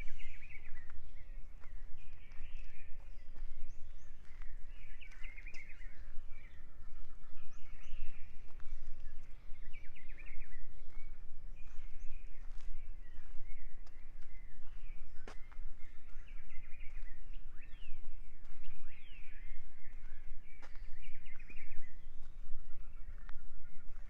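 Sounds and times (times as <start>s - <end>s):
songbirds warbling: 0.0s - 24.0s
steady low rumble: 0.0s - 24.0s.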